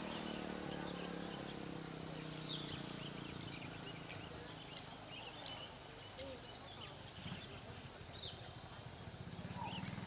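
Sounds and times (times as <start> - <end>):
passing vehicle engine hum: 0.0 - 10.0
small birds chirping: 0.0 - 10.0.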